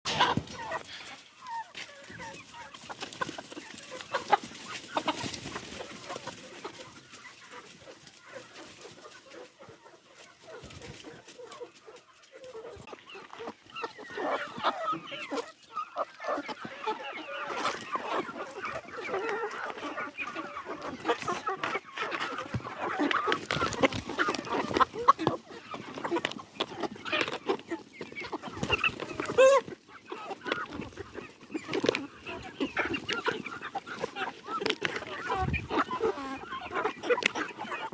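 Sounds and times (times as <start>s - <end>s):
chickens clucking: 0.1s - 37.9s.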